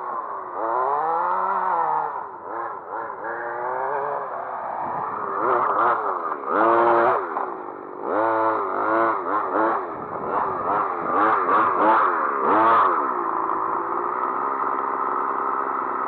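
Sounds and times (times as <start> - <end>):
model car engine revving: 0.0 - 16.0.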